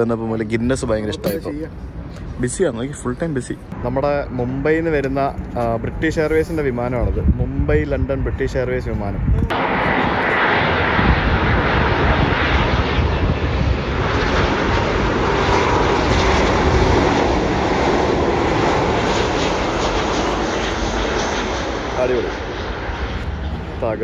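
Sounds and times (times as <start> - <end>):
jet airliner landing: 0.0 - 24.0.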